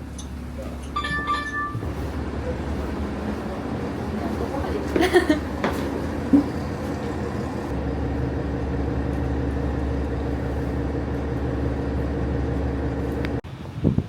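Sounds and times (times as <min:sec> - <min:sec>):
vehicle engine droning: 0:01.8 - 0:13.4.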